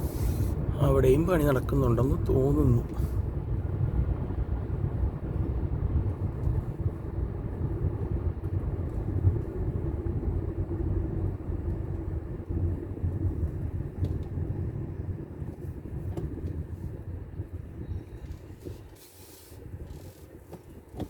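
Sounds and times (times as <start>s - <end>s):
vehicle rumble on road: 0.0s - 21.0s.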